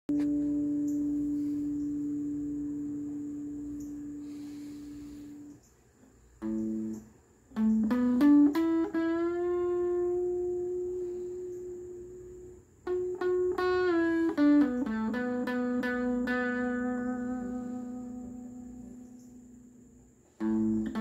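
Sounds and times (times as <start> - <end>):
plucked string instrument notes: 0.1 - 5.4, 6.4 - 12.2, 12.8 - 19.6, 20.4 - 21.0.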